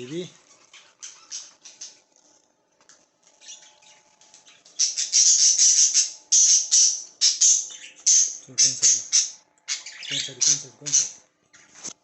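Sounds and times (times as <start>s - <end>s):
budgerigars squawking and chirping: 0.0s - 2.0s, 3.4s - 11.8s.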